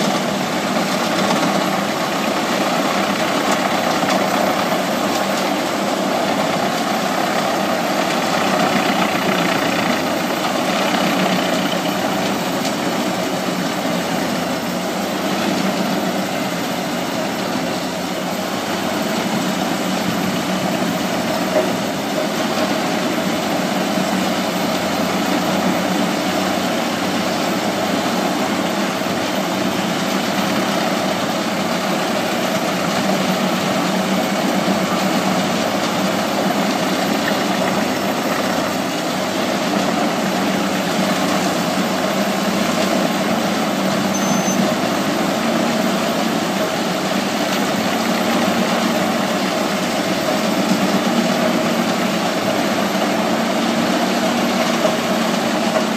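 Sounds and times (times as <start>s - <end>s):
tractor engine under load: 0.0s - 55.9s
wood chipper grinding: 0.0s - 55.9s.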